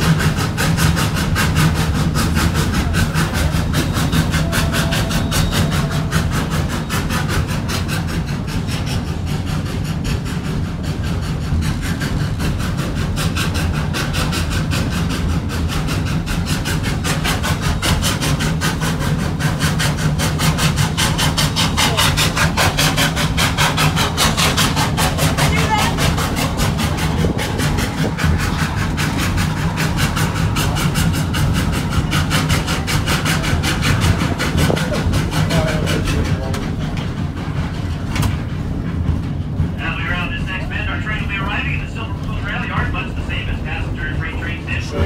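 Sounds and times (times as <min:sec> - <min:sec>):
rumble of rolling train: 0:00.0 - 0:45.0
steam locomotive exhaust beating: 0:00.0 - 0:45.0.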